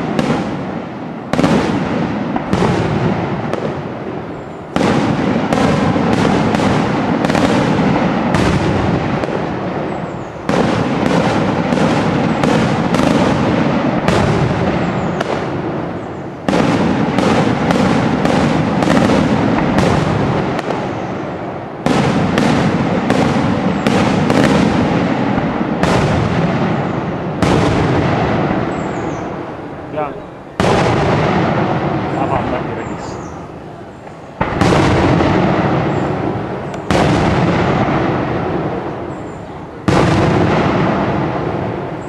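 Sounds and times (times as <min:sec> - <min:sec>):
fireworks bursting overhead: 0:00.0 - 0:42.0.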